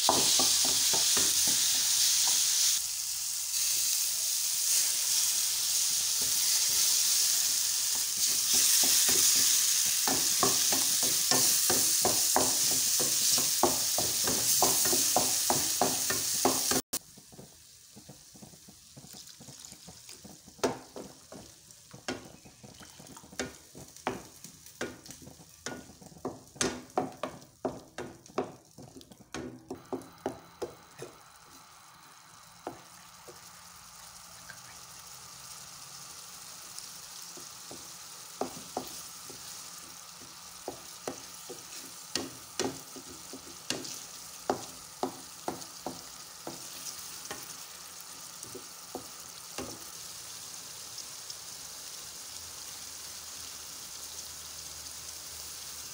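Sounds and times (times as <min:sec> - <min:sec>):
tomatoes sizzling in a frying pan: 0:00.0 - 0:55.9.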